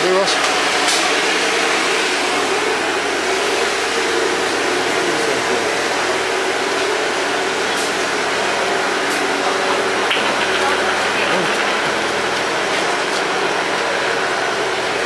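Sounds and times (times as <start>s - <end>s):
train idling: 0.0s - 15.0s.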